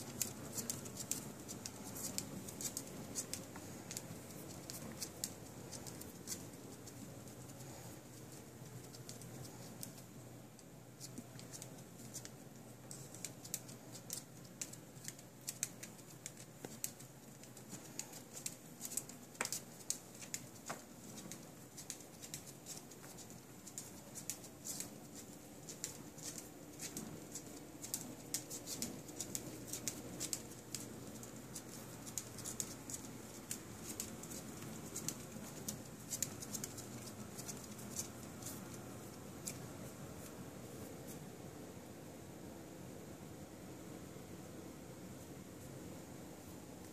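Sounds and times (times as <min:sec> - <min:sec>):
dog claws clicking on floor: 0:00.0 - 0:40.4.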